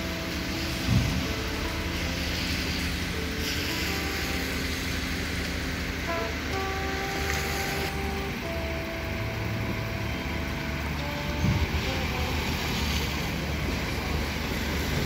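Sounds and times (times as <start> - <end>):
faint sustained musical notes: 0.0 - 15.0
traffic rumble: 0.0 - 15.0
wind on microphone: 0.0 - 15.0.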